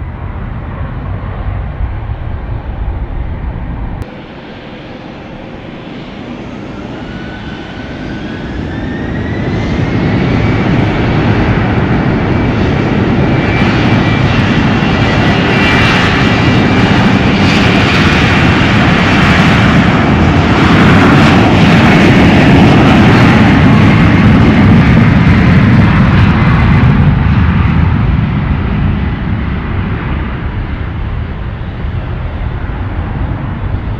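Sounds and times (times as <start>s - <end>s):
airliner engines roaring: 0.0s - 33.9s
high engine whine: 0.0s - 33.9s.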